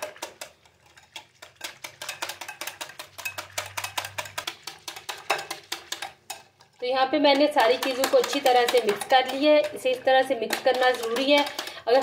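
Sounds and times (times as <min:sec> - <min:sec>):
whisk clicking against bowl: 0:00.0 - 0:12.0.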